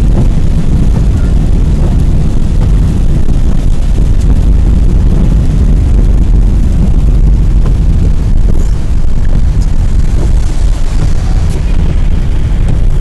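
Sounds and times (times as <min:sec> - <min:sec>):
car driving on slushy road: 0:00.0 - 0:13.0.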